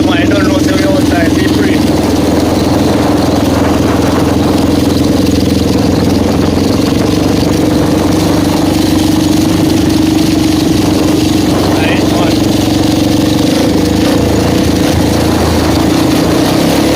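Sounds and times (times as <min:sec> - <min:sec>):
quad bike engine idling: 0:00.0 - 0:16.9.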